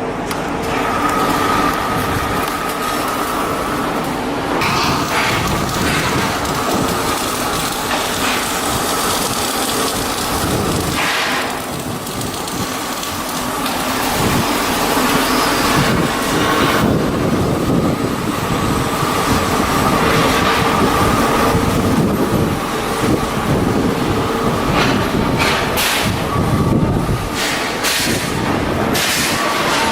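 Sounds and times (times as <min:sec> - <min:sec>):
machinery noise: 0:00.0 - 0:29.9.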